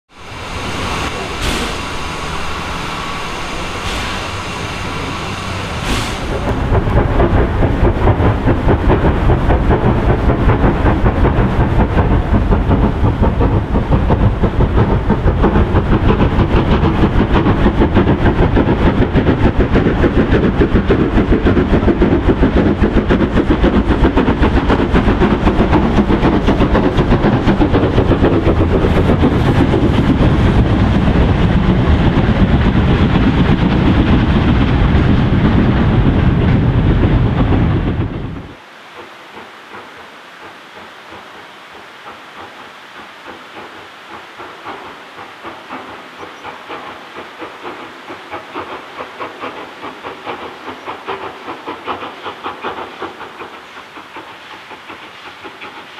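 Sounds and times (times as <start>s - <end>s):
steam locomotive exhaust beats: 0.1s - 55.9s
wagons rumbling over rails: 0.1s - 55.9s.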